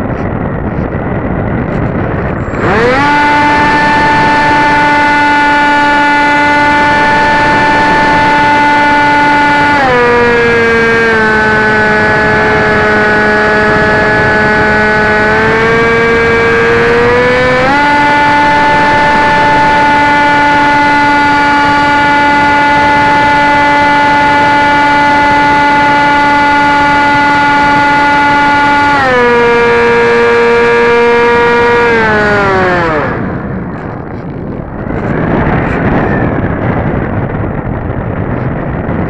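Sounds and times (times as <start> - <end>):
electric motor and propeller whining: 0.0 - 39.0.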